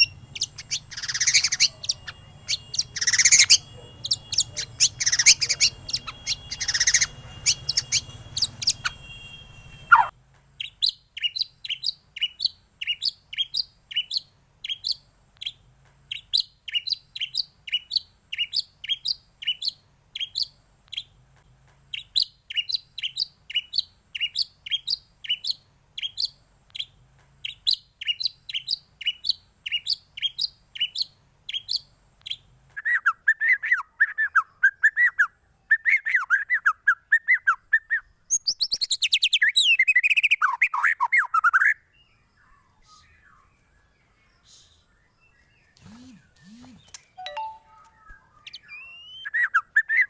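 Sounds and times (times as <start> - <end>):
songbird song: 0.0 - 50.0.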